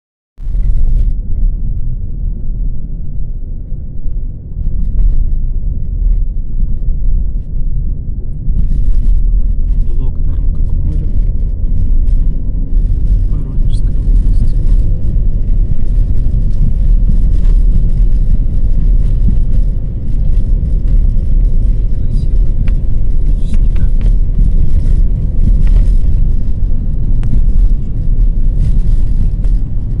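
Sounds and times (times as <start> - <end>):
car driving rumble from inside: 0.4 - 30.0.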